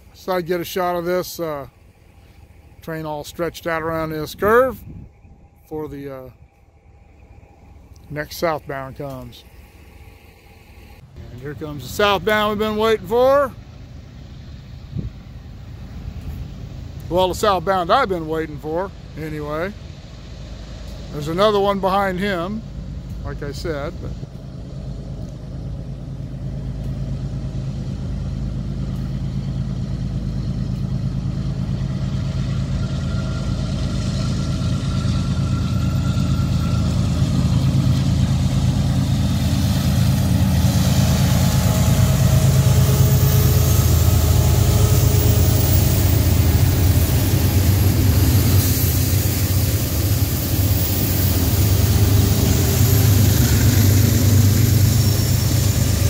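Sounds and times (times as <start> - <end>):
diesel locomotives working hard: 0.0 - 56.0
high hiss: 0.0 - 56.0.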